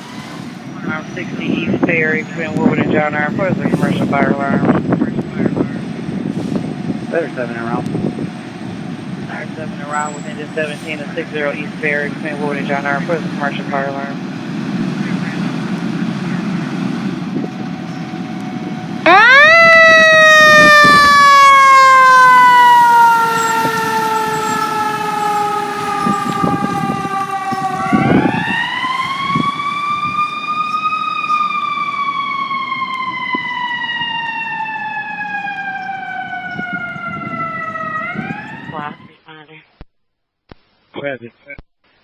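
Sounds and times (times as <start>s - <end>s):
fire truck siren wailing: 0.0s - 39.2s.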